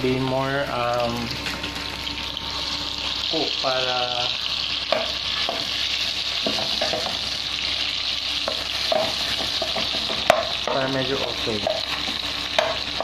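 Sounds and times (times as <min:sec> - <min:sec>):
sausages sizzling in a pan: 0:00.0 - 0:13.0.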